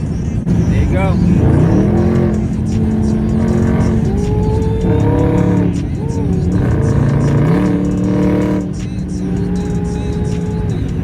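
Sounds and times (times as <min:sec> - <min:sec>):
car exhaust while driving: 0:00.0 - 0:11.0.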